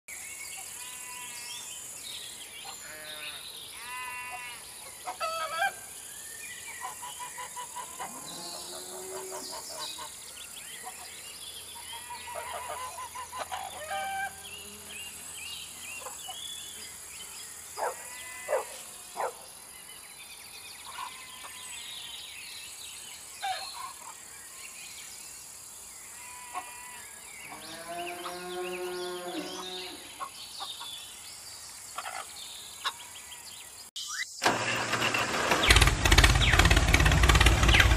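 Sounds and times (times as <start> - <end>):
bird calls and chirps: 0.1 - 34.5, 35.6 - 37.9.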